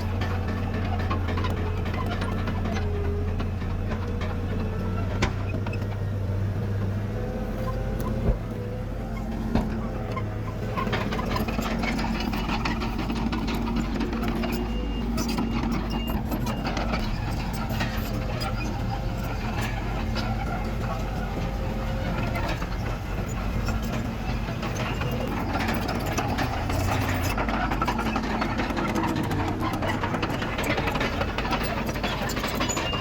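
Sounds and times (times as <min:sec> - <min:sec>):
crawler dozer diesel engine: 0:00.0 - 0:33.0.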